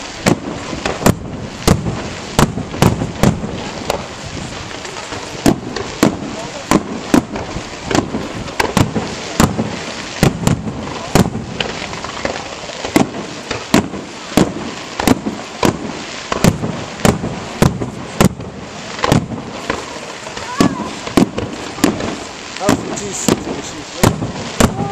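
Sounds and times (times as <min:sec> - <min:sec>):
fireworks bangs: 0:00.0 - 0:24.9.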